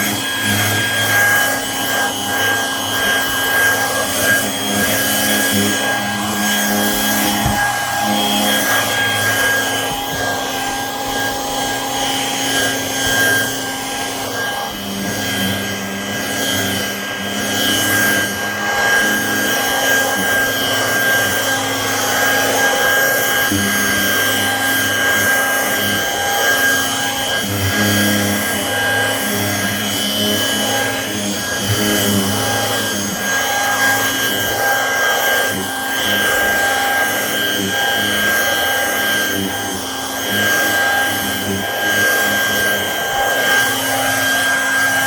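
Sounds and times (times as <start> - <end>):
vacuum cleaner whining: 0.0 - 45.0.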